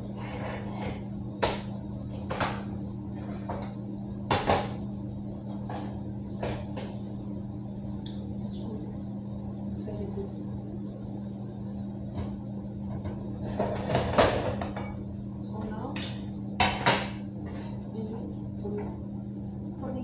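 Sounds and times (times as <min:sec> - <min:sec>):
low electrical appliance hum: 0:00.0 - 0:20.0.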